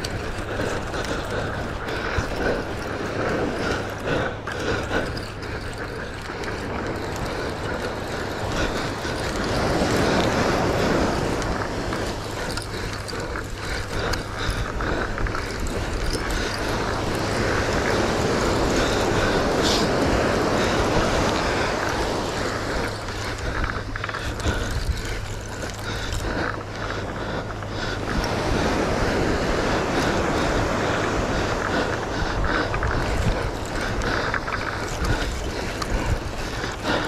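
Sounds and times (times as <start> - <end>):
wind on microphone: 0.0 - 37.0.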